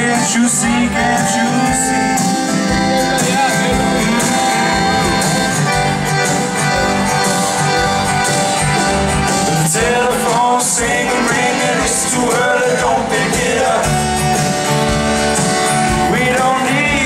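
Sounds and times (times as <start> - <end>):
accordion: 0.0 - 17.0
acoustic guitar: 0.0 - 17.0
drum kit: 0.0 - 17.0.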